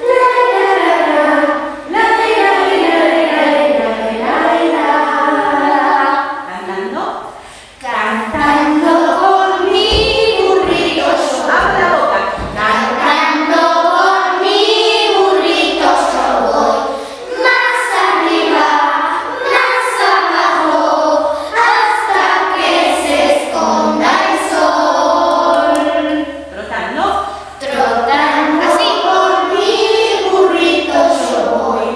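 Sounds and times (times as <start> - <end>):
children's choir singing: 0.0 - 31.9.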